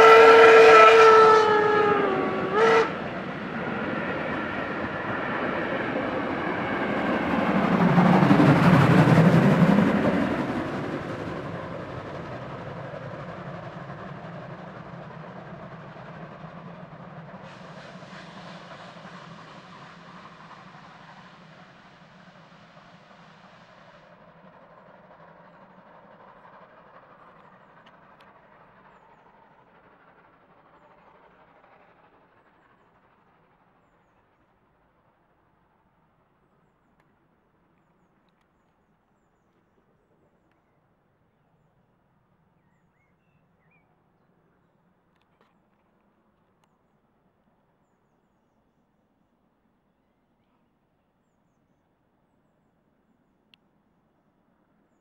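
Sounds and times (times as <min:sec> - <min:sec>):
steam locomotive passing: 0:00.0 - 0:48.3
train coaches on rails: 0:00.0 - 0:55.0.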